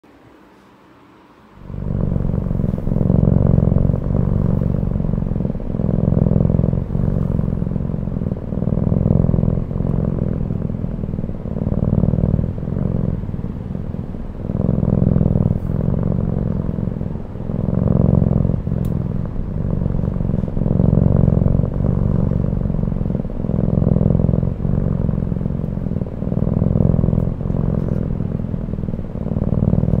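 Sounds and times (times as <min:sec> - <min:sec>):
cat purring loudly: 0:01.6 - 0:30.0.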